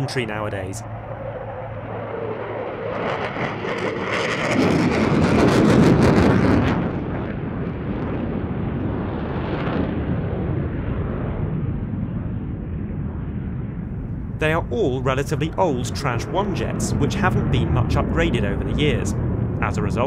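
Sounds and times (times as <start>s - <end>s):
fighter jets roaring past: 0.0s - 20.0s.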